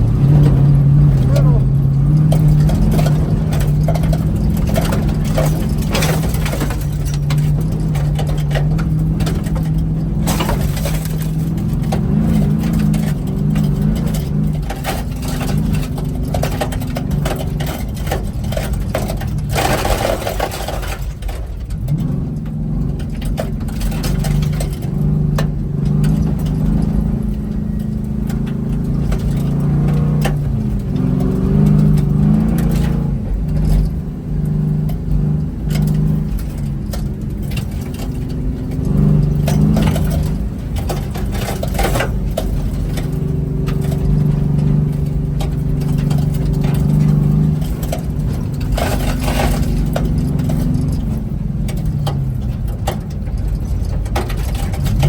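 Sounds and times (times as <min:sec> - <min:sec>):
knocks and scraping: 0:00.0 - 0:55.0
vehicle engine running hard: 0:00.0 - 0:55.0.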